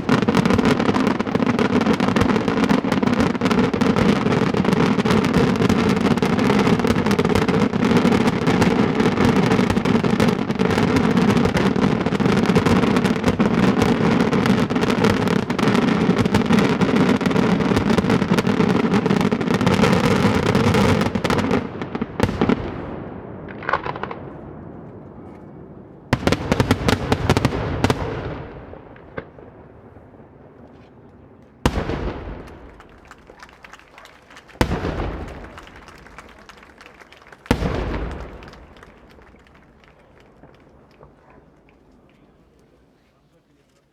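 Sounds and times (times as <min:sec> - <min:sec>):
fireworks bangs echoing: 0:00.0 - 0:42.6.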